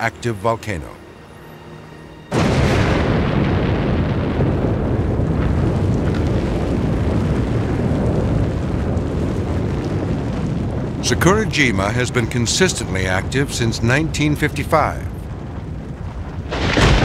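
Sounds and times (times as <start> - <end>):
volcano erupting deep rumble: 2.3 - 17.0.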